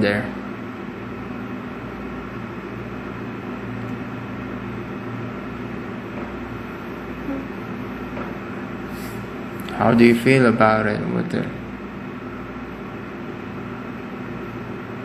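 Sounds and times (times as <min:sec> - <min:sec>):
steady machine hum and hiss: 0:00.0 - 0:15.0.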